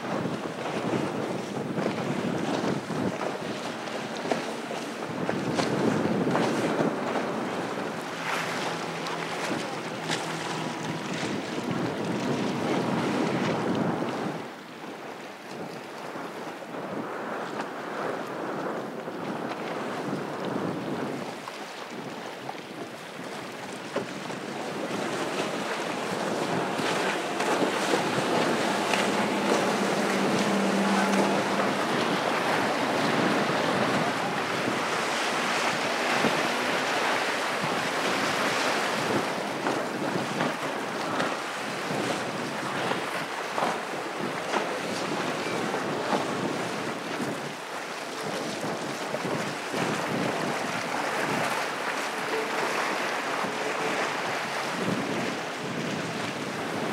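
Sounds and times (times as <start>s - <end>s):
boat engines droning: 0.0s - 56.9s
hull spray and wake rushing: 0.0s - 56.9s
wind buffeting microphone: 0.0s - 56.9s.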